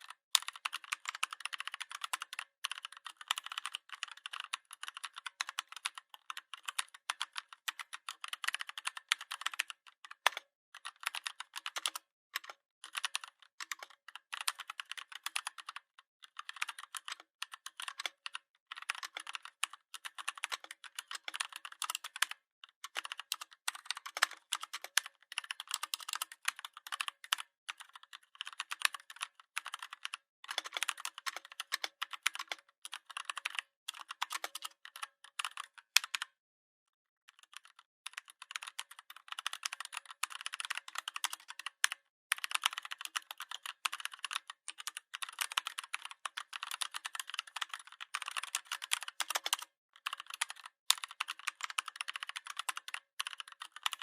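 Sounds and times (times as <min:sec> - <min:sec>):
keyboard typing: 0:00.0 - 0:36.4, 0:37.3 - 0:54.0.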